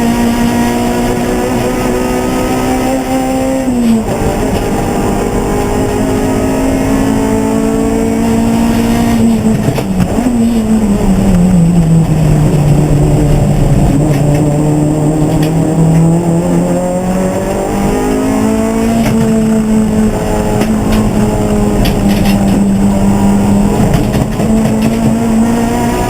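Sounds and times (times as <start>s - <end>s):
race car engine running hard: 0.0s - 26.0s.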